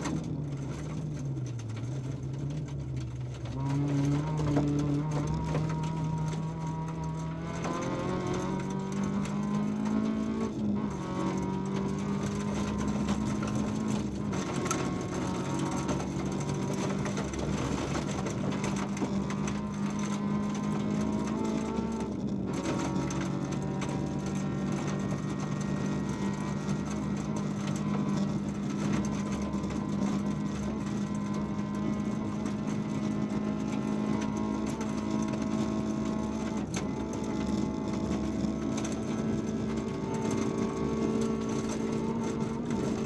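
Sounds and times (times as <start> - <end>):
rally car engine revving high: 0.0 - 43.0
rattles and ticks: 0.0 - 43.0.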